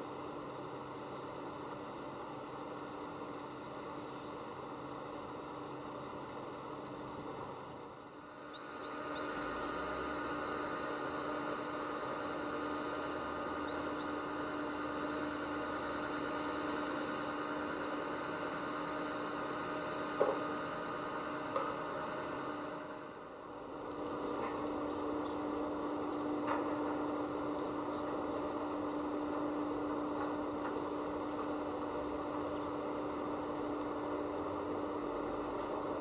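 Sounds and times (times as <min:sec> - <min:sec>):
steady outdoor hum: 0:00.0 - 0:36.0.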